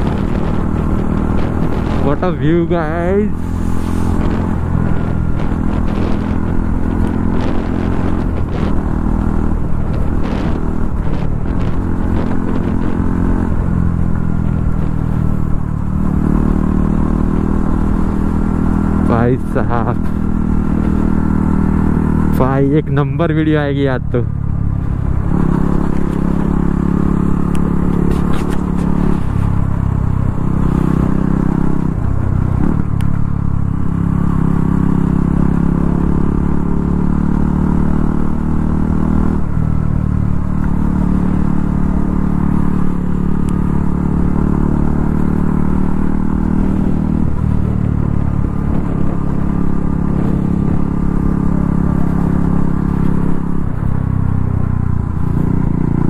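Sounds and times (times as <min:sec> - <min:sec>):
low wind rumble: 0:00.0 - 0:56.0
motorcycle engine running: 0:00.0 - 0:56.0.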